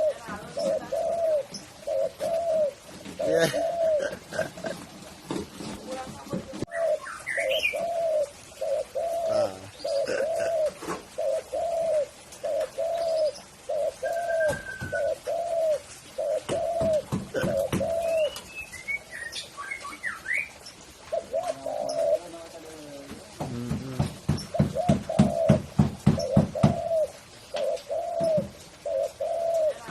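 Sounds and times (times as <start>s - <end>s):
dove cooing: 0.0s - 18.4s, 19.7s - 29.9s.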